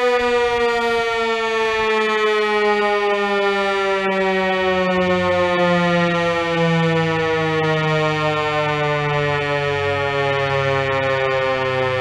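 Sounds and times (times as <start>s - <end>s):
warning siren with falling pitch: 0.0s - 12.0s.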